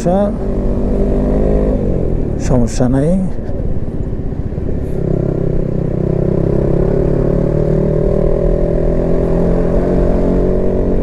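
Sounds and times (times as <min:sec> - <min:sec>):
motorcycle engine running under load: 0:00.0 - 0:11.0.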